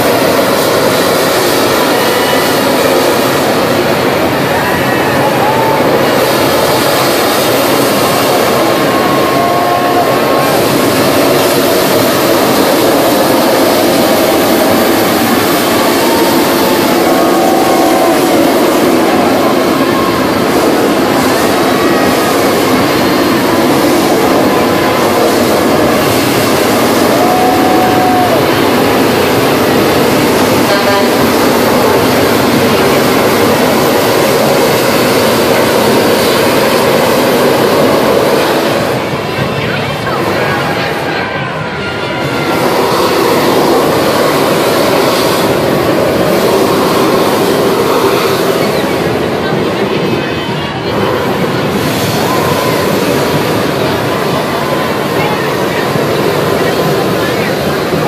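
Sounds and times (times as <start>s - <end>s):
propane burners roaring: 0.0s - 58.0s.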